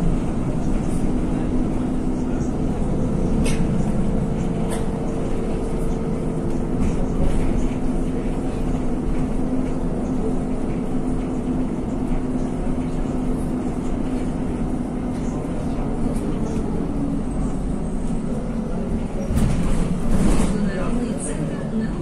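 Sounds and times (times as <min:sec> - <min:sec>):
bus engine drone: 0:00.0 - 0:22.0
road noise: 0:00.0 - 0:22.0.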